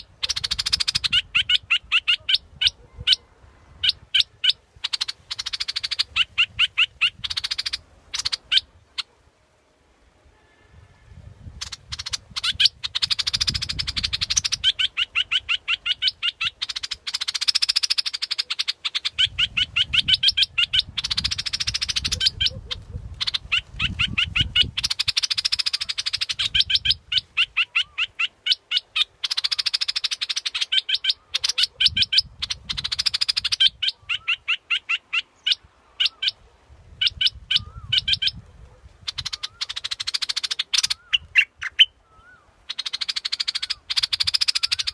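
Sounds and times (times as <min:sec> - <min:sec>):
bird call chattering notes: 0:00.0 - 0:03.2, 0:03.8 - 0:09.2, 0:11.6 - 0:36.4, 0:39.0 - 0:44.9.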